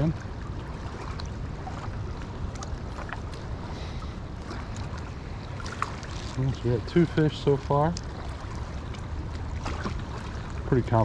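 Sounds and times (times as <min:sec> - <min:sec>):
small waves lapping: 0:00.0 - 0:11.0.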